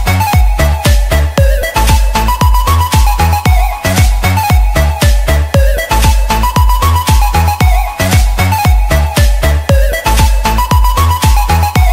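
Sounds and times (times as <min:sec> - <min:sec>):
electronic dance music: 0:00.0 - 0:11.9
kick drum: 0:00.0 - 0:11.9
synth melody: 0:00.0 - 0:11.9.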